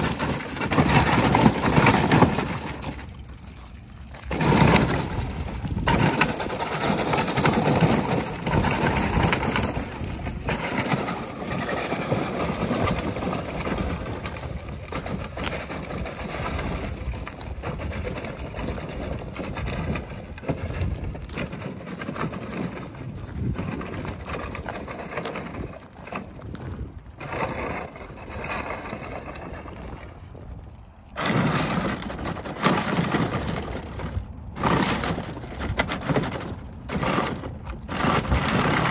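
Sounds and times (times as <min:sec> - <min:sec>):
plastic wheels crunching on gravel: 0:00.0 - 0:38.9.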